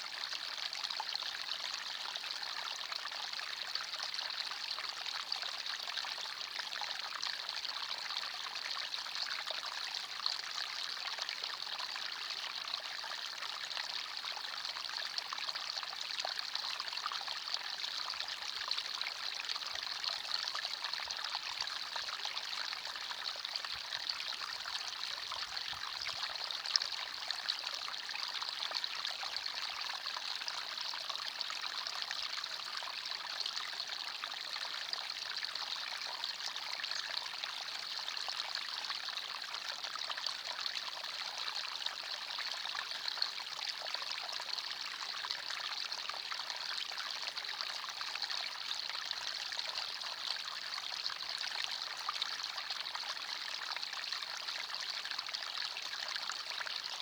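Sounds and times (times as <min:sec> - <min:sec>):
stream trickling over stones: 0:00.2 - 0:57.0.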